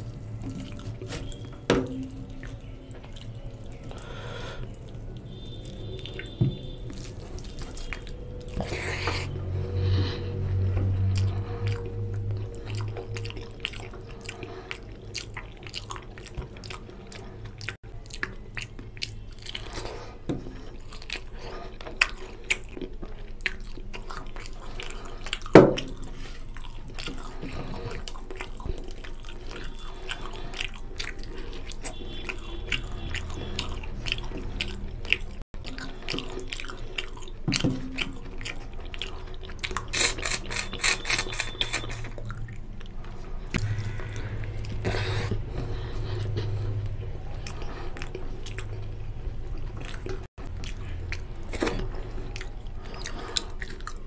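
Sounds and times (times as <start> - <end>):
wet chewing and lip-smacking: 0.0 - 54.0.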